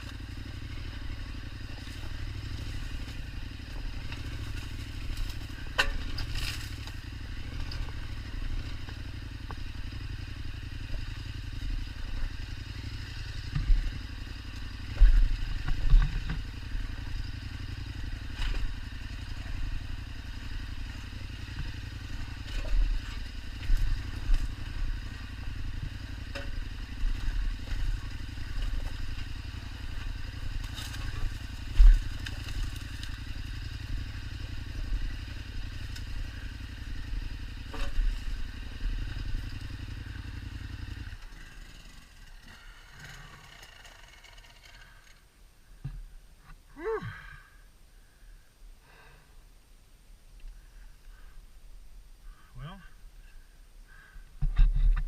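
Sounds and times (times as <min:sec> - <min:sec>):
motorcycle thumping over rough ground: 0:00.0 - 0:44.9, 0:45.8 - 0:46.6, 0:54.4 - 0:55.0
motorcycle engine at low revs: 0:00.0 - 0:55.0.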